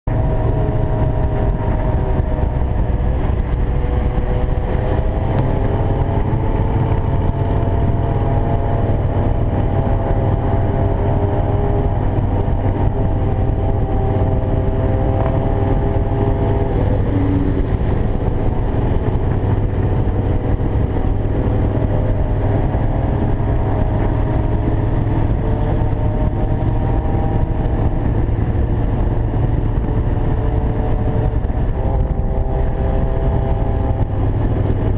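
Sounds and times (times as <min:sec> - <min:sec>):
motorcycle engines droning: 0:00.1 - 0:34.9.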